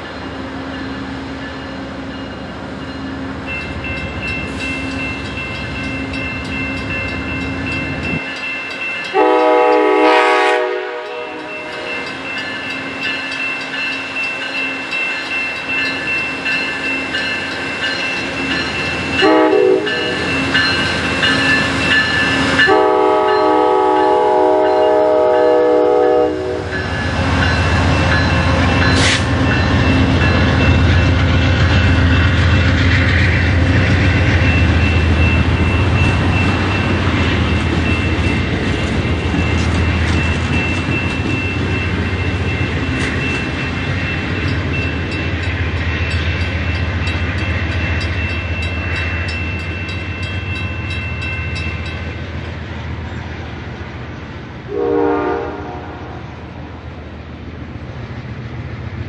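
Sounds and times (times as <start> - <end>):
train cars rolling on steel wheels: 0.0 - 54.6.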